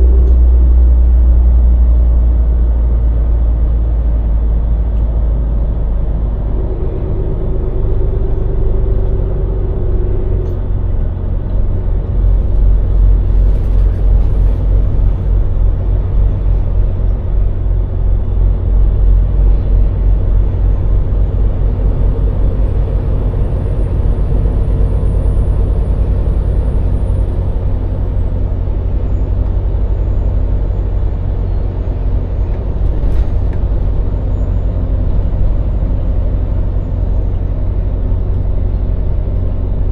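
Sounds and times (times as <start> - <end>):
lorry diesel engine rumbling: 0.0 - 39.9
road noise: 0.0 - 39.9.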